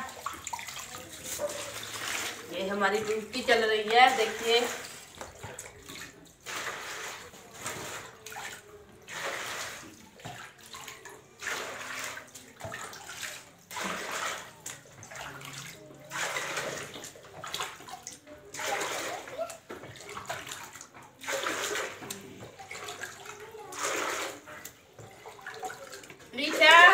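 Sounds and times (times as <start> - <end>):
water splashing and pouring: 0.0 - 26.9.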